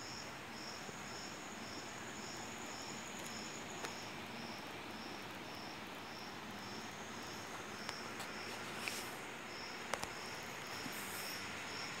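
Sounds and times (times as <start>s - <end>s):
cricket chirping: 0.0s - 12.0s
outdoor hiss: 0.0s - 12.0s.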